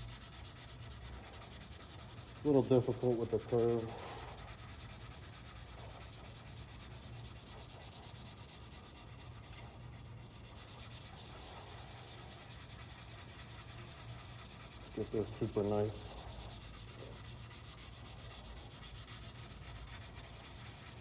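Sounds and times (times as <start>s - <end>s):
sandpaper rubbing back and forth: 0.0s - 21.0s
steady low hum: 0.0s - 21.0s.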